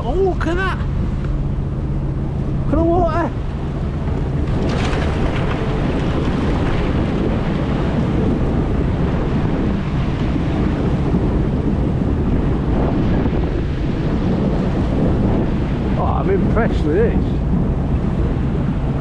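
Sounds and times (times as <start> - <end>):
ferry engine drone: 0.0 - 19.0
wind buffeting microphone: 0.0 - 19.0.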